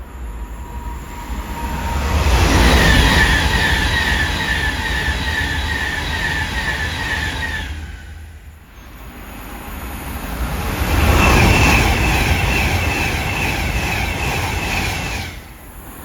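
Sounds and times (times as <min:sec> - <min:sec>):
train rumble passing: 0:00.0 - 0:16.0.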